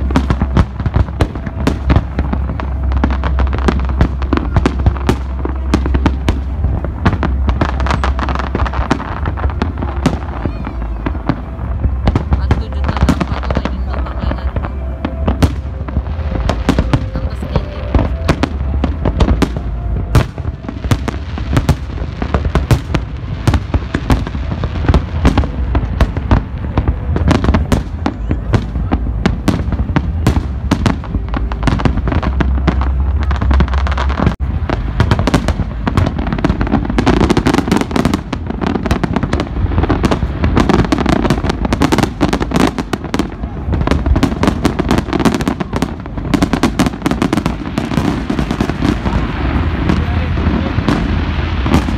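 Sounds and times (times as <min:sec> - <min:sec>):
deep rumble: 0:00.0 - 0:51.9
fireworks bursting bangs: 0:00.0 - 0:51.9.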